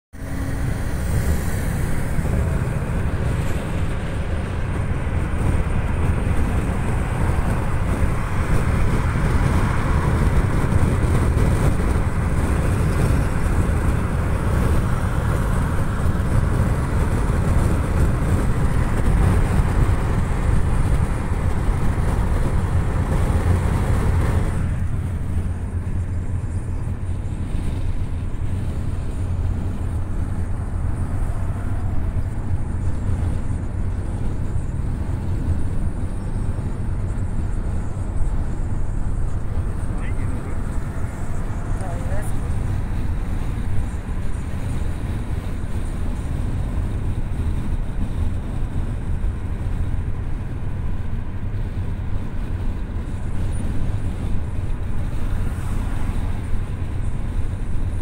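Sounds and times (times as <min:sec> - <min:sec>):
engine and tyre rumble: 0:00.1 - 0:58.0.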